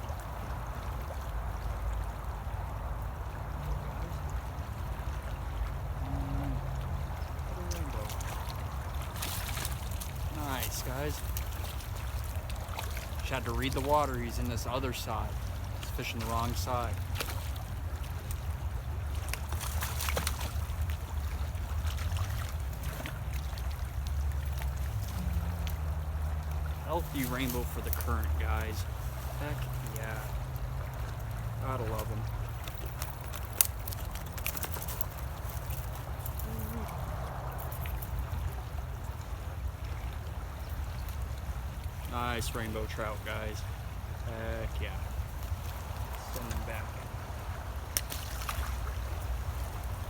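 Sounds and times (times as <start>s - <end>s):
water rushing in a ditch: 0.0s - 50.0s.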